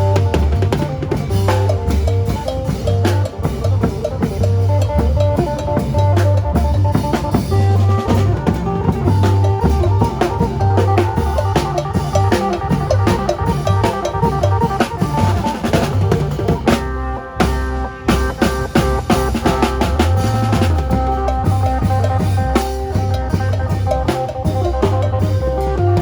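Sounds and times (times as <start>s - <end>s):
drum kit with heavy bass drum: 0.0s - 26.0s.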